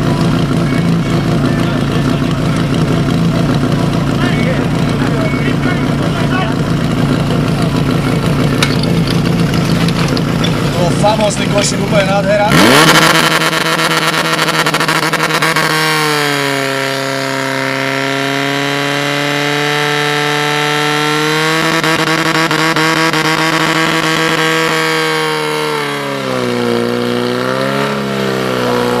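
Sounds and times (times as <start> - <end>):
pump engine running at high revs: 0.0 - 29.0.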